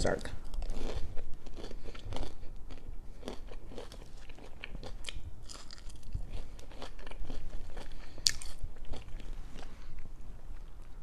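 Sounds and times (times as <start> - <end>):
chewing and crunching food: 0.1 - 11.0.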